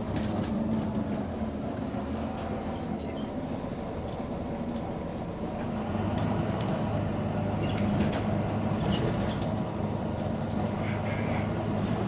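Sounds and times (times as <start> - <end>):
bus diesel engine drone: 0.0 - 12.0.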